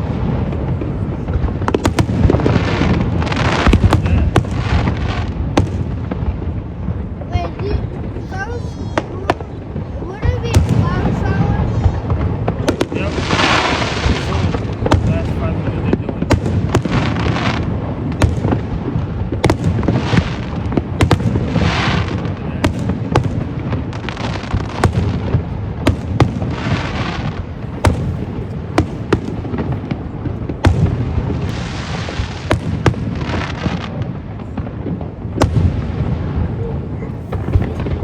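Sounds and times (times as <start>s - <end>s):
crackling fireworks showers: 0.0s - 38.0s
fireworks bangs: 0.0s - 38.0s.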